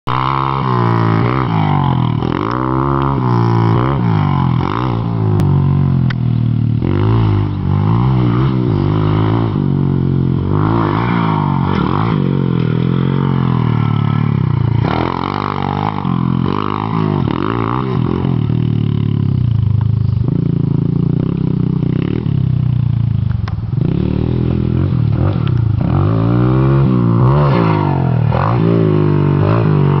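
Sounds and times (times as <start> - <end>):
small motorbike engine revving: 0.1 - 30.0.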